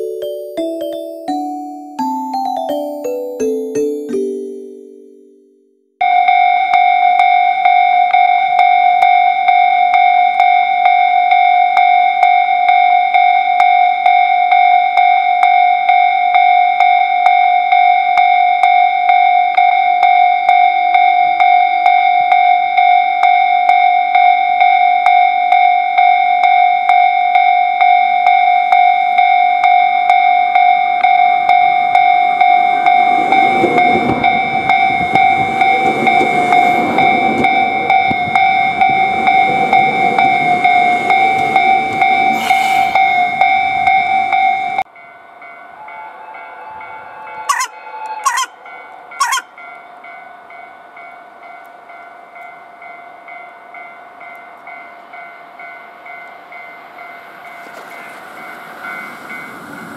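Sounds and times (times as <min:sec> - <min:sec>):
level crossing alarm ringing: 0:00.0 - 0:50.2
electric train rumbling past: 0:06.0 - 0:59.9.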